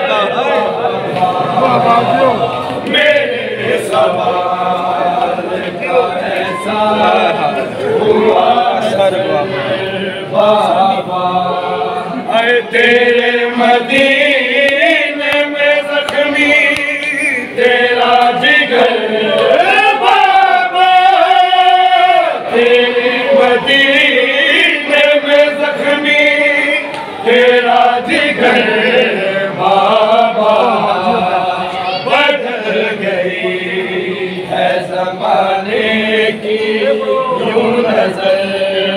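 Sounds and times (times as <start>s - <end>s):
men chanting a lament in unison: 0.0s - 38.9s.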